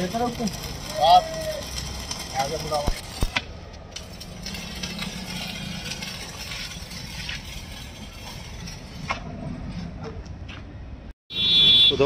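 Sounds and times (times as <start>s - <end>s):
arc welding crackling and sizzling: 0.0s - 9.7s.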